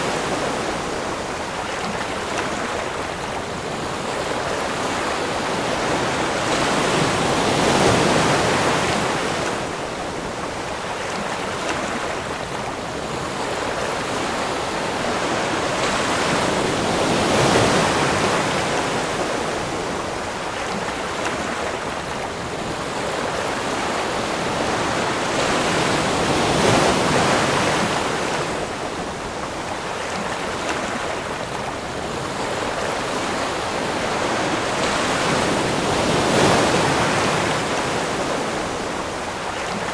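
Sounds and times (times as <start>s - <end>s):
ocean waves surging: 0.0s - 39.9s.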